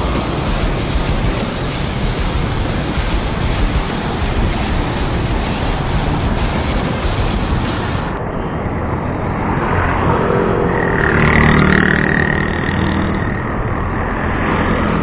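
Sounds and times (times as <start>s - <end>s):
motor vehicle passing: 0.0s - 15.0s
road noise: 0.0s - 15.0s.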